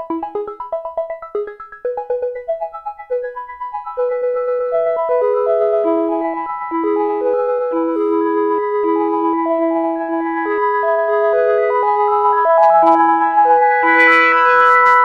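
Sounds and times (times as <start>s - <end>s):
synthesizer notes and chords: 0.0s - 15.0s.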